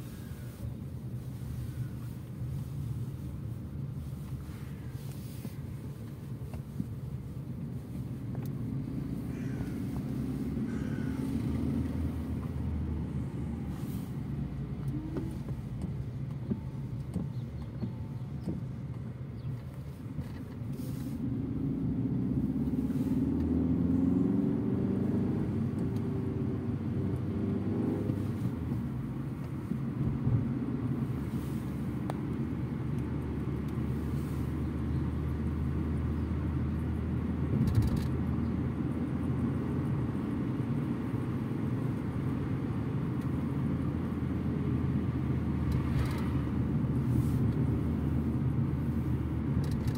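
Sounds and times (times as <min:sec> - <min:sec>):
car engine inside cabin: 0:00.0 - 0:49.9.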